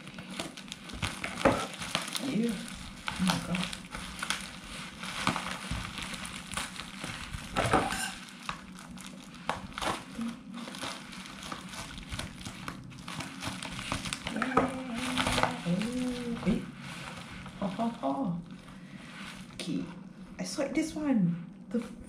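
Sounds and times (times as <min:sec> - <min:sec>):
bubble wrap crinkling: 0:00.0 - 0:20.2.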